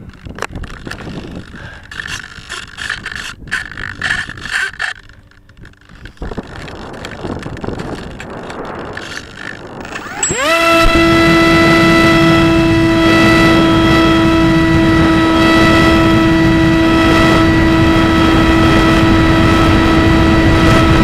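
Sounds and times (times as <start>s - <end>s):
wind rushing over microphone: 0.0s - 4.8s, 5.5s - 21.0s
microphone handling noise: 0.0s - 21.0s.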